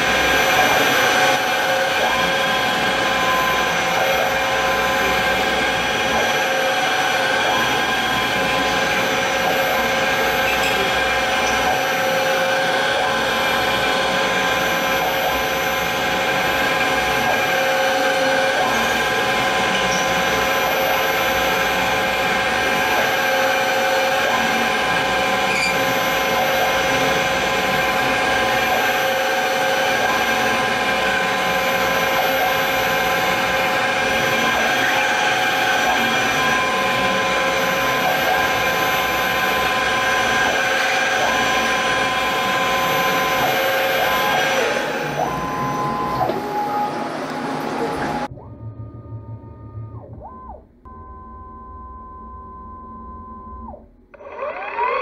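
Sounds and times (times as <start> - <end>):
milling machine cutting metal: 0.0 - 48.3, 54.2 - 55.0
whining spindle tones: 0.0 - 50.7, 53.5 - 55.0.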